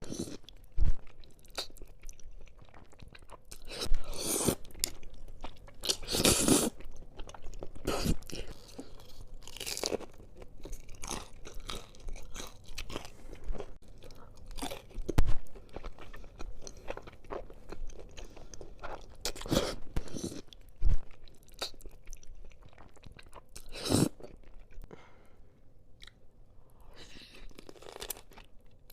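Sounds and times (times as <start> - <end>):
chewing and wet mouth sounds: 0.0 - 25.0.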